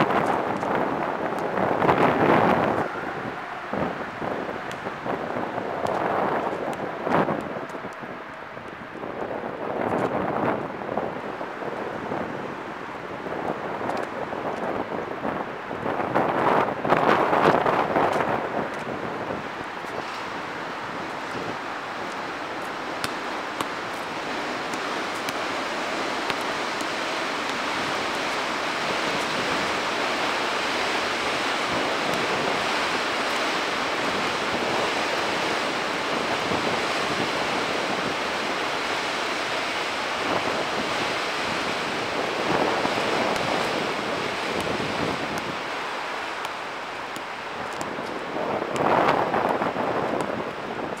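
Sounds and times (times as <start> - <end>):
steady outdoor rushing noise: 0.0 - 51.0.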